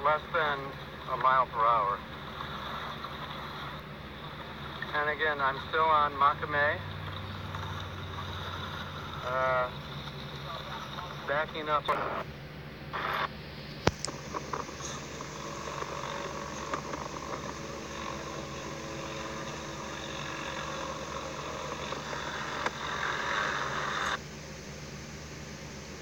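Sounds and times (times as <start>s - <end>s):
vehicle engine low hum: 1.7s - 11.6s, 13.4s - 26.0s.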